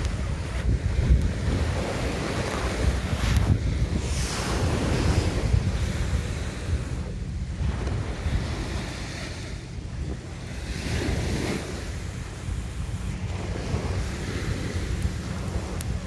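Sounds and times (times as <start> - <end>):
sea waves washing in: 0.0 - 16.0
wind buffeting microphone: 0.0 - 16.0.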